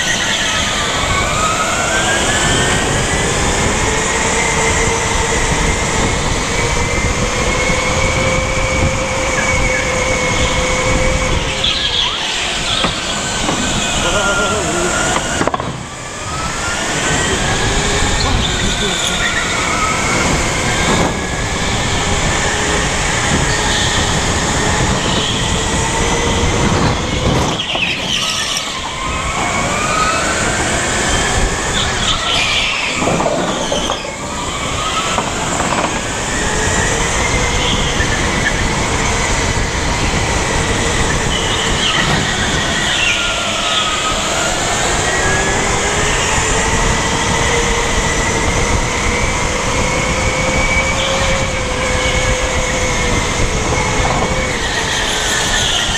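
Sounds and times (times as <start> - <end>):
go-kart motor whining: 0.0 - 55.9
road and chassis noise: 0.0 - 55.9.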